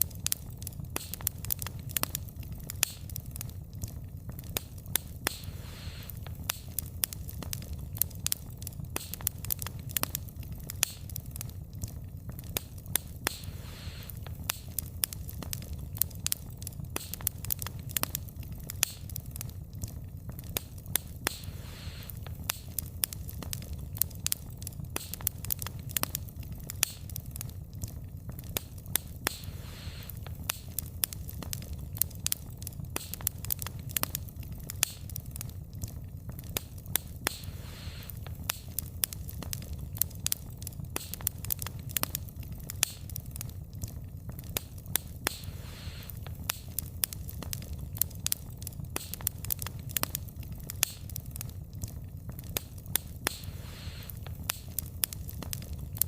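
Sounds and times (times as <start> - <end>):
fire hissing softly: 0.0 - 56.0
wood fire crackling and popping: 0.0 - 56.0.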